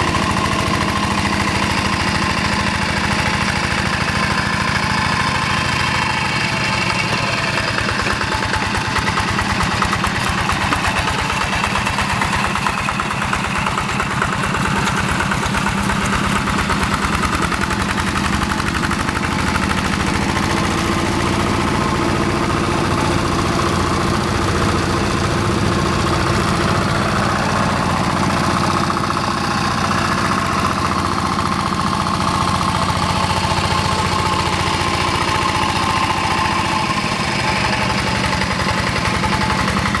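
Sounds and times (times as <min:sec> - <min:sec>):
diesel engine running under load: 0:00.0 - 0:40.0.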